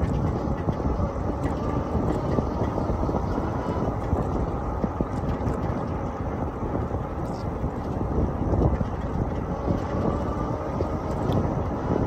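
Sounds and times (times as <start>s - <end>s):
bike tyre rumble on concrete: 0.0s - 12.0s
wind buffeting microphone: 0.0s - 12.0s.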